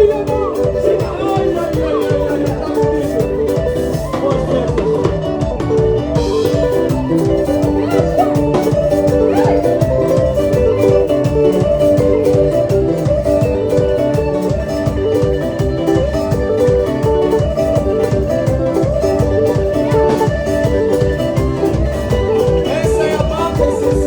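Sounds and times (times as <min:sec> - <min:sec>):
plucked guitar melody: 0:00.0 - 0:24.0
steady drum beat: 0:00.0 - 0:24.0.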